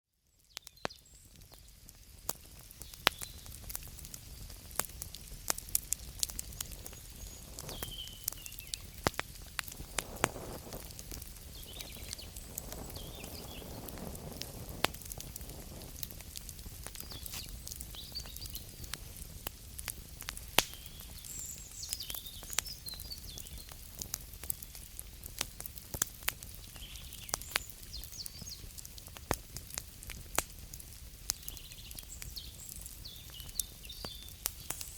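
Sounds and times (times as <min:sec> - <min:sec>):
wood fire crackling and popping: 0:00.4 - 0:34.9.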